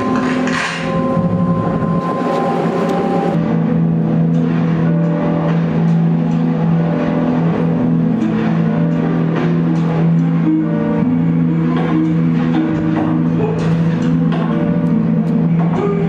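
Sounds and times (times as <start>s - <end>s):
low drone: 0.0s - 16.0s
movie music: 0.0s - 16.0s
movie sound effects: 0.0s - 16.0s.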